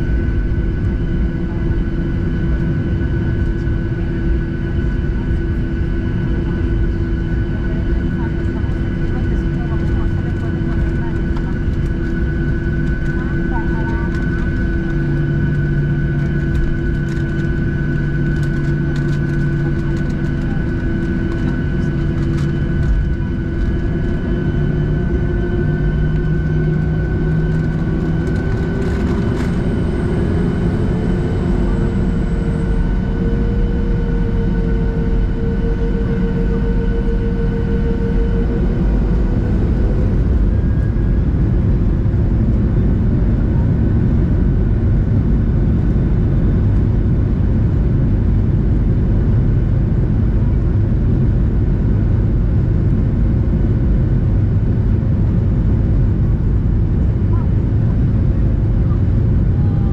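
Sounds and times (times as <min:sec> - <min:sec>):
deep rumble: 0:00.0 - 0:59.9
jet engine hum and whine: 0:00.0 - 0:59.9.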